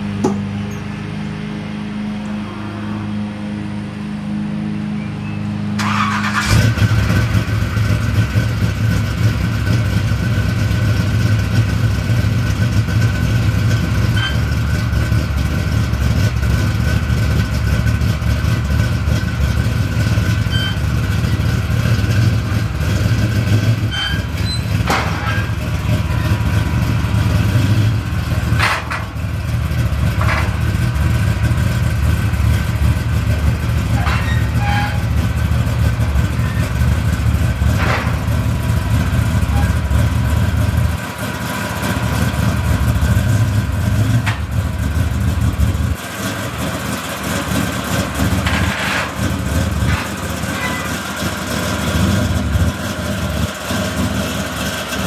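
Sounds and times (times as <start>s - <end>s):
car engine starting and idling: 5.2s - 55.0s.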